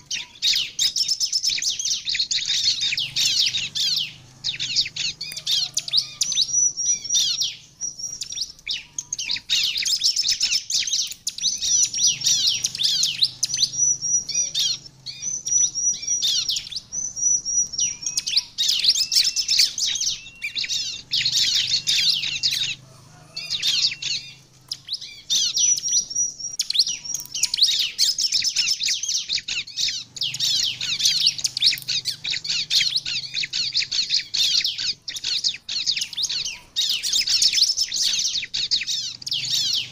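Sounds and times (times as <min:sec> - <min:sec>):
bird song with rapid chirps: 0:00.0 - 0:39.9.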